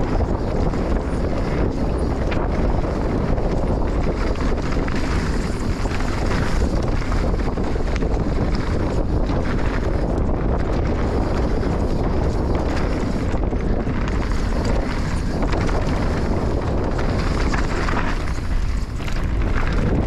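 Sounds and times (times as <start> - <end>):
motorcycle engine running: 0.0 - 20.0
wind buffeting on microphone: 0.0 - 20.0.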